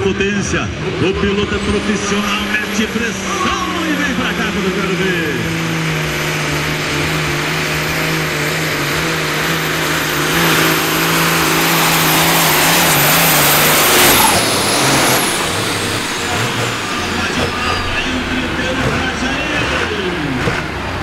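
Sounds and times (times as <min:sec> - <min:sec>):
high whine dropping in pitch: 0:00.0 - 0:19.6
diesel engines at full power: 0:00.0 - 0:21.0.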